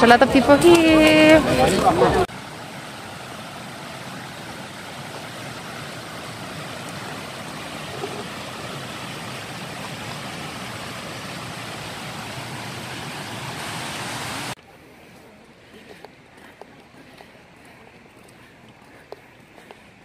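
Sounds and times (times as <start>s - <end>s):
river water rushing over weir: 0.5s - 20.0s.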